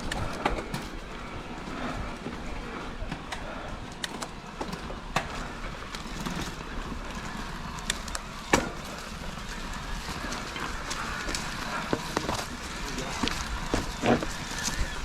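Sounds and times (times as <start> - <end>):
footsteps on rocky trail: 0.0 - 15.0.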